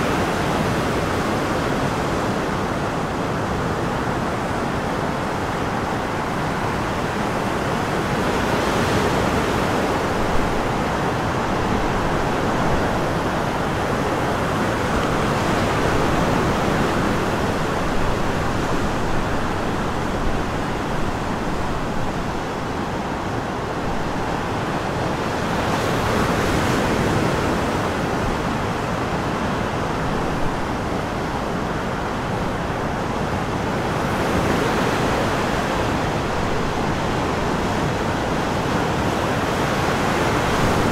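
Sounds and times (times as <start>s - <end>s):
sea waves breaking: 0.0s - 40.9s.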